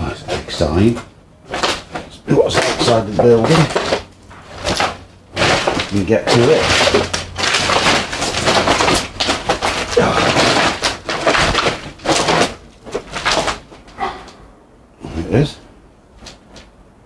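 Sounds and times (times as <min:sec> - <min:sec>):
footsteps crunching over rubble: 0:00.0 - 0:14.0.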